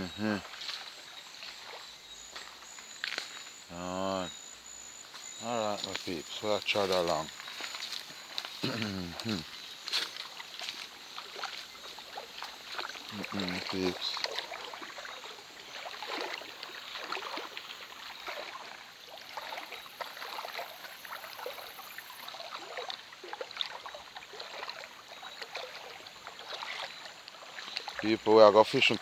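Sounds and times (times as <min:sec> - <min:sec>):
river water splashing: 0:00.0 - 0:29.0.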